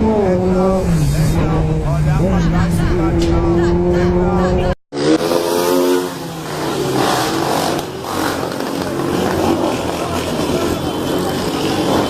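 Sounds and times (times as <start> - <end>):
motorcycle engines running: 0.0 - 12.0
noisy street sound: 0.0 - 12.0.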